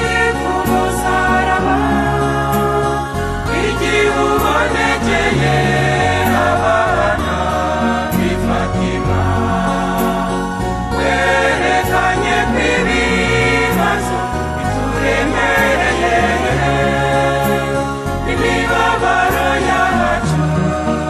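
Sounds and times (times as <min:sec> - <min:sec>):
hymn music with bass line: 0:00.0 - 0:21.0.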